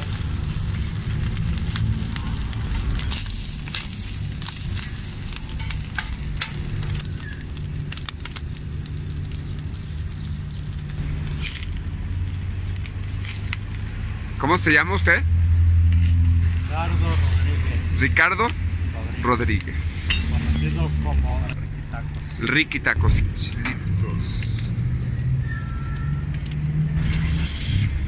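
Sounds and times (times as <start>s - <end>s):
low rumble: 0.0s - 28.0s
meat sizzling on a griddle: 0.0s - 28.0s.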